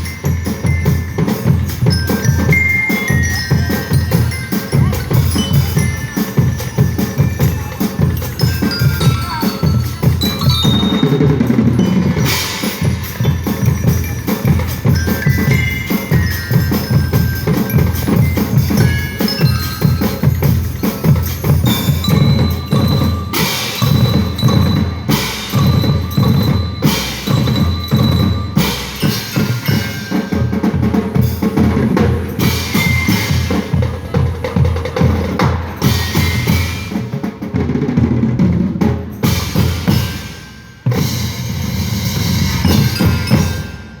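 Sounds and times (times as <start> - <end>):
glockenspiel melody: 0.0 - 37.2, 38.9 - 44.0
drums playing: 0.0 - 44.0.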